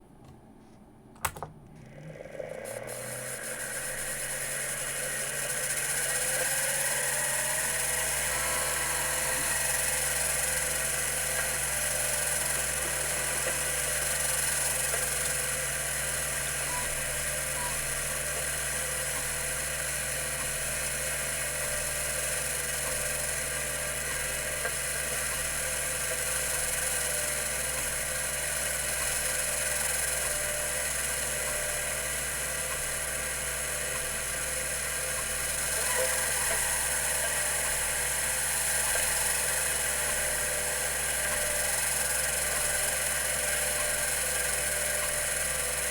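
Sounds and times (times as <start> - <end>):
hard drive spinning whine: 1.7 - 45.9.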